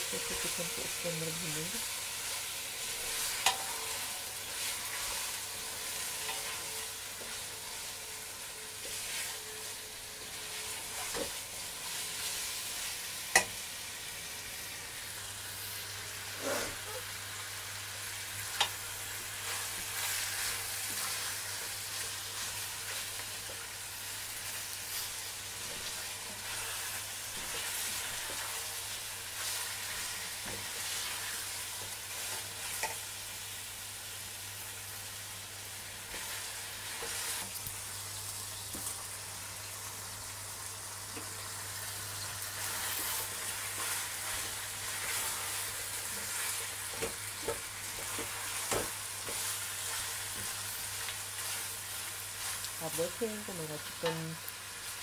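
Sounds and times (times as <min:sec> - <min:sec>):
chicken and onions sizzling in oil: 0:00.0 - 0:55.0.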